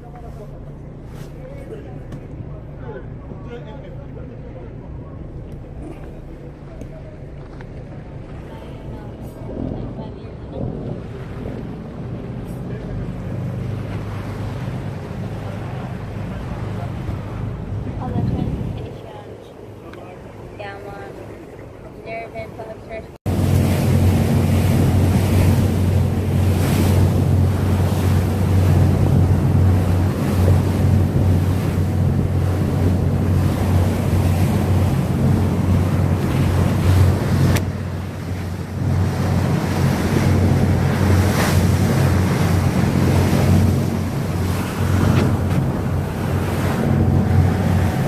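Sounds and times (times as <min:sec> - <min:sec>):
boat engine drone: 0:00.0 - 0:48.0
rushing water: 0:05.6 - 0:48.0
wind buffeting microphone: 0:07.2 - 0:48.0.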